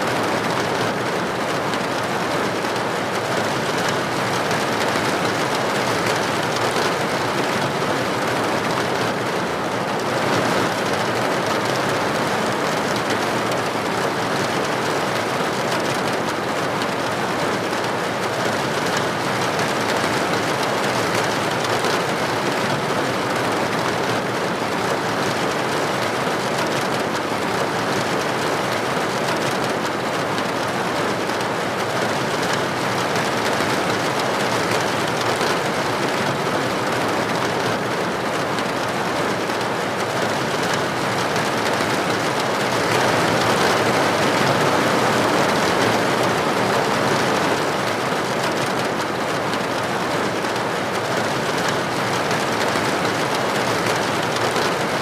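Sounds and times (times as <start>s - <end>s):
rain pattering on window: 0.1s - 55.0s.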